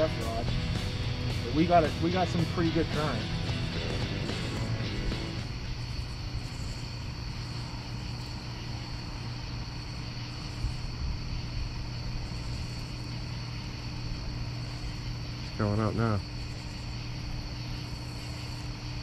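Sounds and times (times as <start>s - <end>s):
faint high whine: 0.0s - 19.0s
low mechanical drone: 0.0s - 19.0s.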